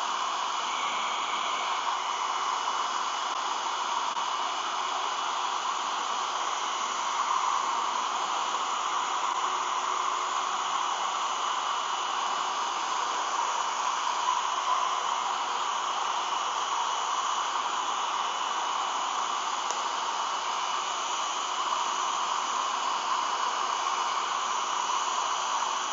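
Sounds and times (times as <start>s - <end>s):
hair dryer blowing: 0.0s - 25.9s.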